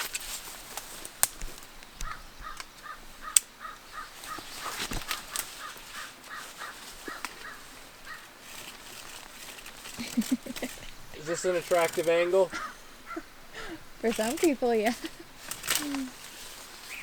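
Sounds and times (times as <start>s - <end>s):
sharp cracks: 0.0s - 17.0s
bird calling harsh notes: 2.0s - 9.2s, 9.9s - 17.0s.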